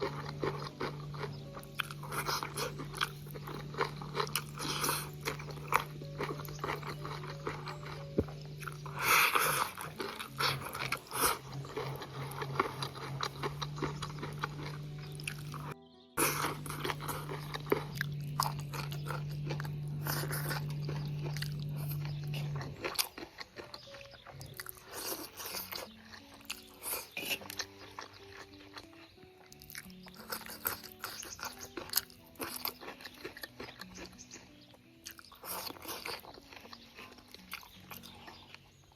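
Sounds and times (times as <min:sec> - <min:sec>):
background music low notes: 0:00.0 - 0:38.9
crunchy chewing: 0:00.0 - 0:38.9.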